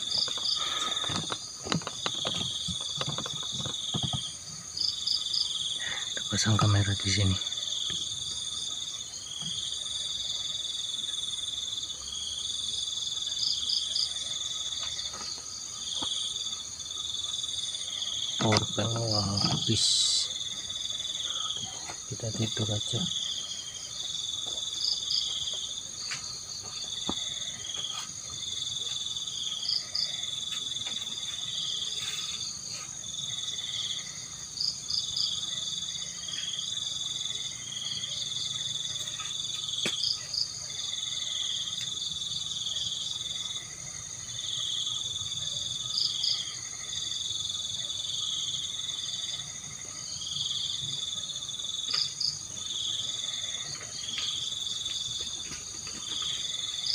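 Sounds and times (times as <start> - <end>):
high cricket trill: 0.0 - 56.9
pulsing low insect chirp: 0.0 - 56.9.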